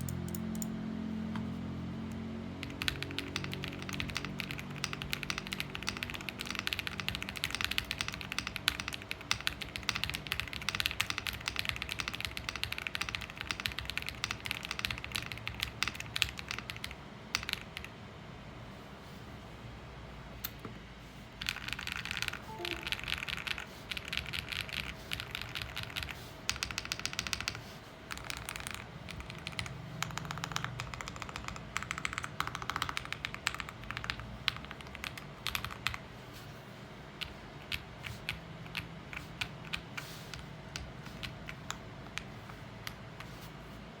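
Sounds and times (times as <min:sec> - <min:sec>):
mechanical keyboard typing: 0:00.0 - 0:00.7, 0:02.6 - 0:18.0, 0:21.4 - 0:36.1, 0:37.2 - 0:43.0.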